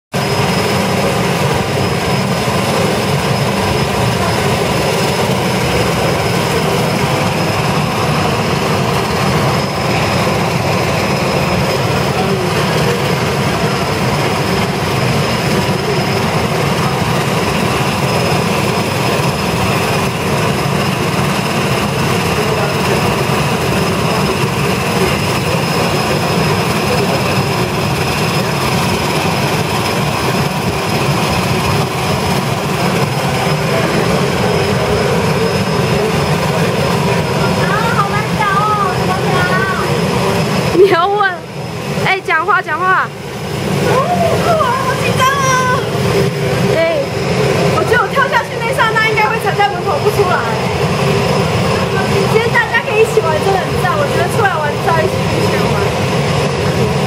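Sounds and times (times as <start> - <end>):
propeller and exhaust rush: 0.1 - 57.0
turbine engine whine: 0.1 - 57.0.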